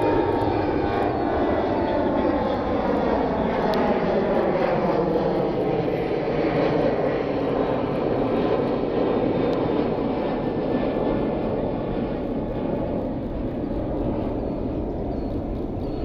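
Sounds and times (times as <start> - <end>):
jet engines at takeoff thrust: 0.0 - 16.0.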